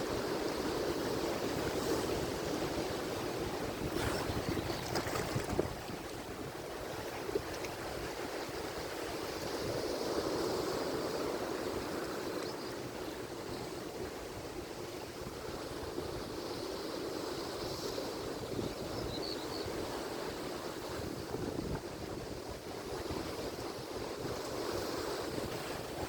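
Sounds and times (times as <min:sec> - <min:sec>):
waves breaking and washing ashore: 0:00.0 - 0:26.0.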